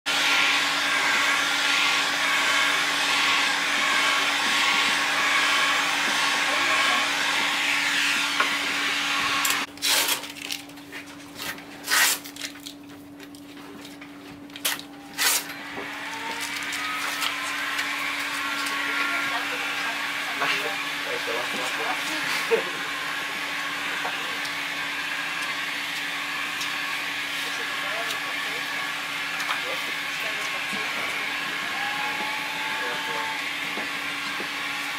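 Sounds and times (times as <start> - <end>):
heat gun hissing: 0.1 - 9.7, 15.2 - 34.9.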